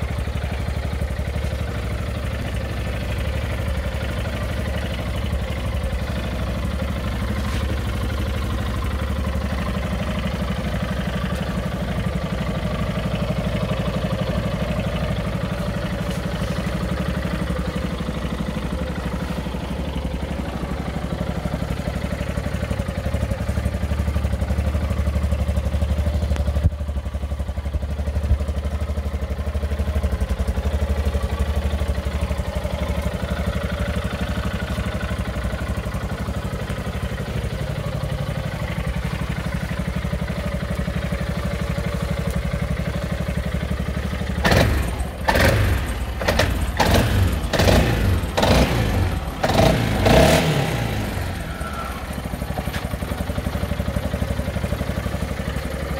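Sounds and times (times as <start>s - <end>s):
quad bike engine idling: 0.0s - 55.9s.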